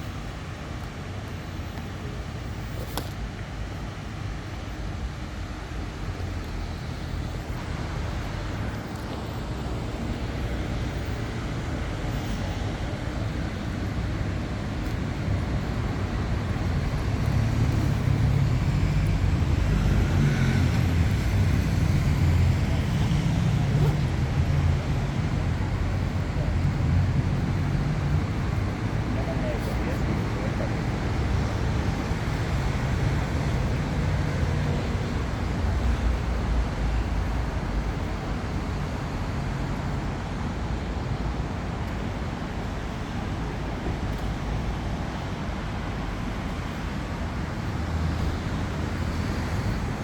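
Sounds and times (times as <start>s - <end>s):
street traffic rumble: 0.0s - 50.0s.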